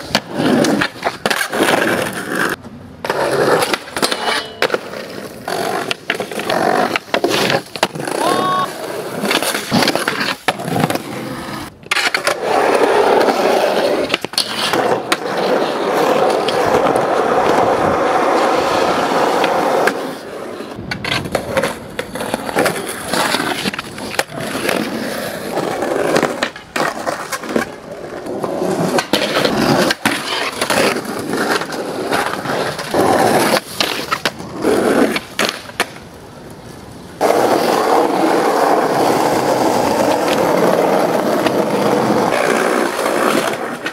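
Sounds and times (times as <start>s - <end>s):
skateboard clacks: 0.0s - 43.9s
skateboard wheels rolling: 0.0s - 43.9s.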